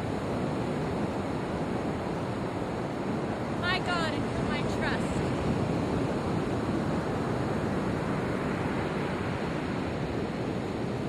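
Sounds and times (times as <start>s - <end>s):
ocean surf on sand: 0.0s - 11.0s
wind buffeting microphone: 0.0s - 11.0s.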